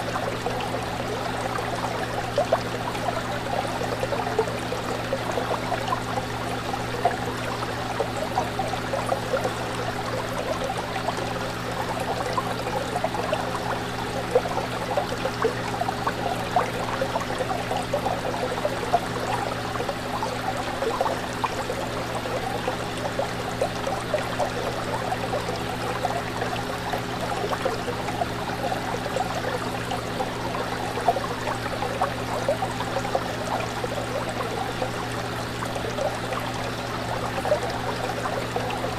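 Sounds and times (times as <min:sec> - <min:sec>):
low pump hum: 0:00.0 - 0:38.9
water trickling and bubbling: 0:00.0 - 0:38.9.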